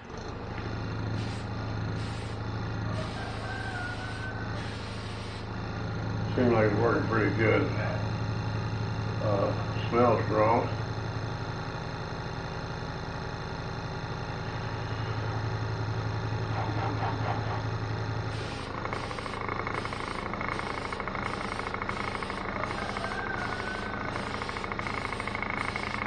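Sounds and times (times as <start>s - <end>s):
air compressor humming: 0.0s - 26.0s
pulsing air hiss: 0.0s - 26.0s.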